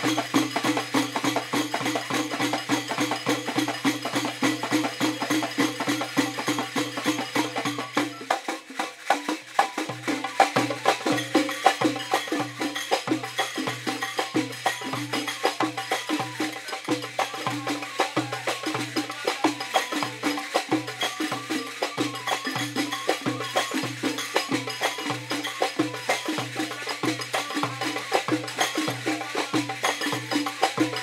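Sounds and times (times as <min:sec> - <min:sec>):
frame drums and hand percussion: 0:00.0 - 0:31.0.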